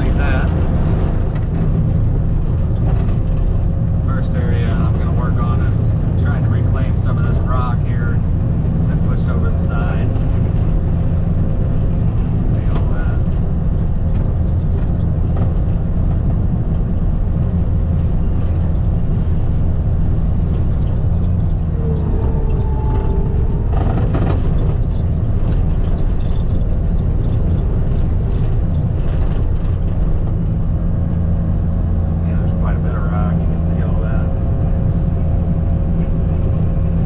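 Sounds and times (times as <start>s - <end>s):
skid steer engine running: 0.0s - 37.0s.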